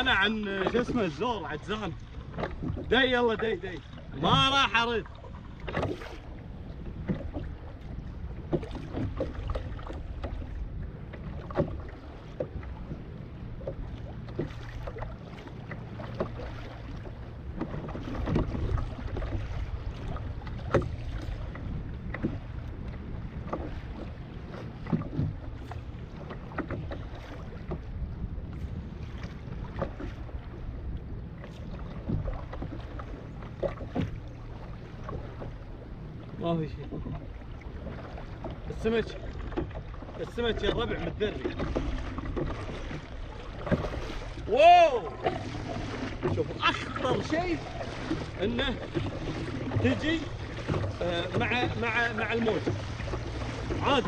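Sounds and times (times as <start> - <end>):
waves splashing against kayak hull: 0.0 - 54.0
wind rumble on microphone: 0.0 - 54.0.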